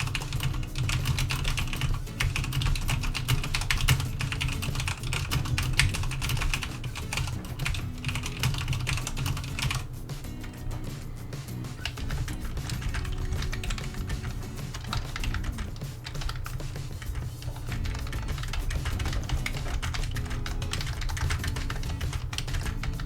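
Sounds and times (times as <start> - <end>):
fast typing on keyboard: 0.0 - 23.0.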